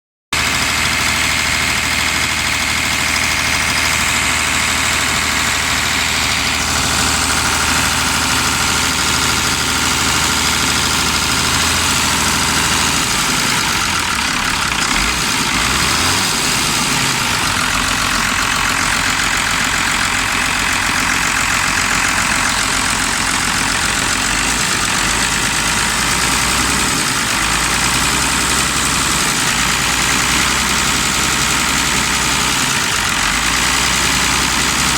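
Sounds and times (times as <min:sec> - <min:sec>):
diesel truck engine idling: 0:00.4 - 0:34.9.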